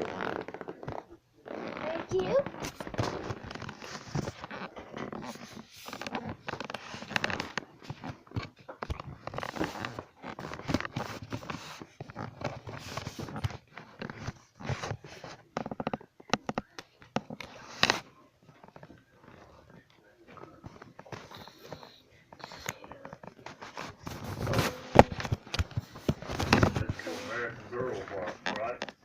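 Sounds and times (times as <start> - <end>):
objects rustling and scraping: 0.0 - 29.0.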